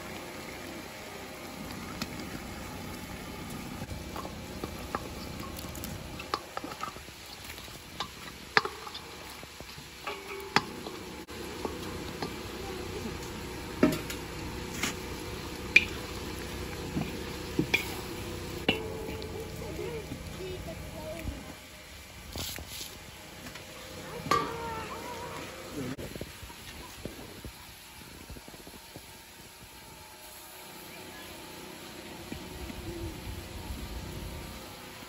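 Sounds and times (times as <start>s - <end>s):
food sizzling in wok: 0.0s - 35.0s.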